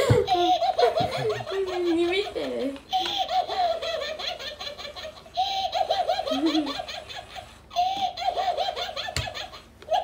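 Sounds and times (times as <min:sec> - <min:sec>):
talking doll giggling: 0:00.0 - 0:10.0.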